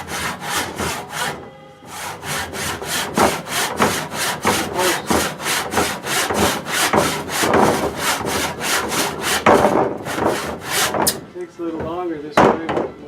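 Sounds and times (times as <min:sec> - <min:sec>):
hand saw cutting wood: 0:00.0 - 0:11.2.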